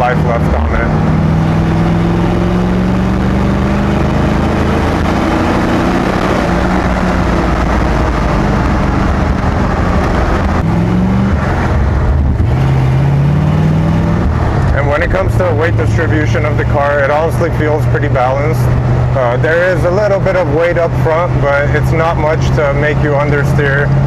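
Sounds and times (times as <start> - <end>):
car engine running while driven: 0.0 - 24.0.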